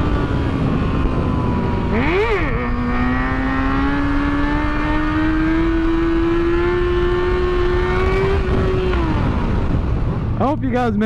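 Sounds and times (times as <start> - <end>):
motorcycle engine accelerating: 0.0 - 11.0
wind on microphone: 0.0 - 11.0.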